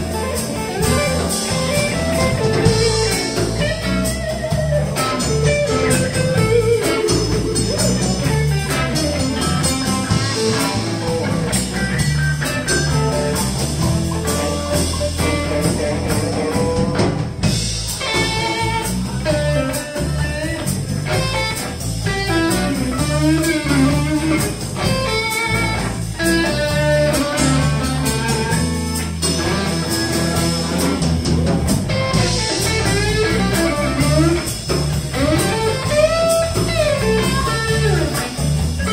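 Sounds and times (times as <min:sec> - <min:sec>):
bass guitar: 0:00.0 - 0:38.9
drum kit: 0:00.0 - 0:38.9
electric guitar lead with bent notes: 0:00.0 - 0:38.9.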